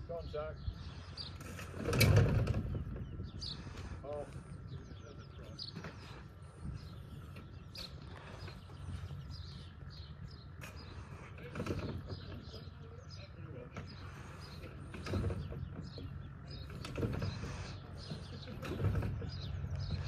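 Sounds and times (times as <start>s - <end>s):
birds chirping: 0.0s - 20.0s
dull bursts: 0.0s - 20.0s
low outdoor rumble: 0.0s - 20.0s.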